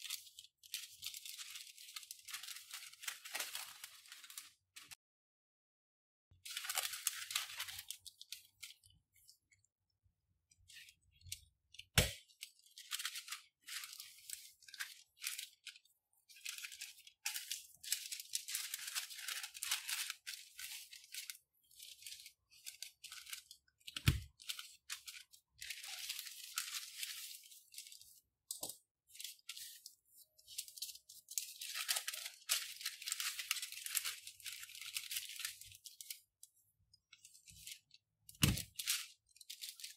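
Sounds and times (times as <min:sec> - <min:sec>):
paper rustling and crinkling: 0:00.0 - 0:05.0, 0:06.5 - 0:09.5, 0:10.6 - 0:39.9.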